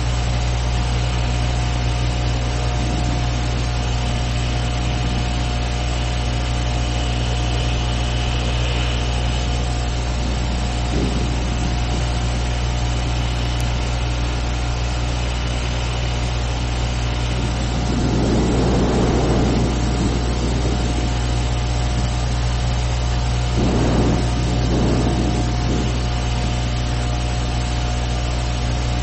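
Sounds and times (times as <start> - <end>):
constant hiss: 0.0 - 29.0
deep rough rumble: 0.0 - 29.0
low hum: 0.0 - 29.0.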